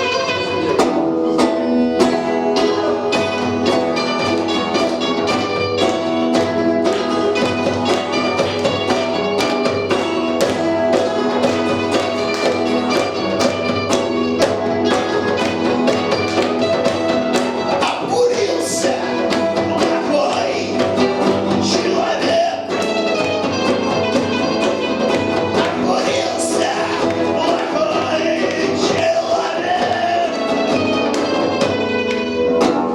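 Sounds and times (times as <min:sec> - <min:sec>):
punk rock band playing live: 0:00.0 - 0:32.9
fast drum beat: 0:02.1 - 0:32.8.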